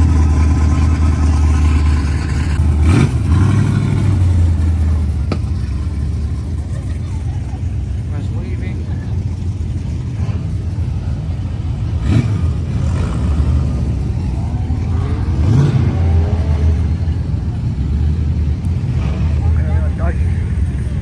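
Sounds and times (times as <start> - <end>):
car engine revving: 0.0 - 21.0
car engines rumbling: 0.0 - 21.0.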